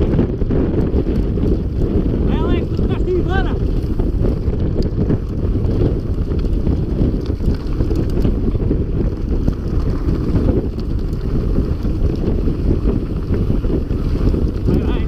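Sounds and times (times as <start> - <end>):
bike rattling on rough trail: 0.0 - 15.0
wind buffeting microphone: 0.0 - 15.0.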